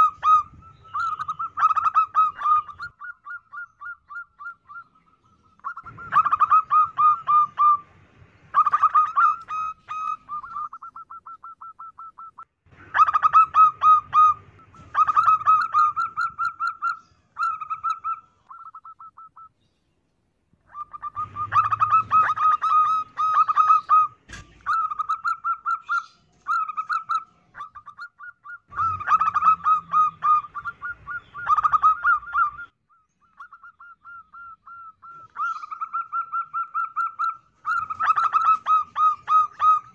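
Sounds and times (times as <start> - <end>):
dove cooing: 0.0 - 7.9, 8.5 - 19.5, 20.7 - 39.9.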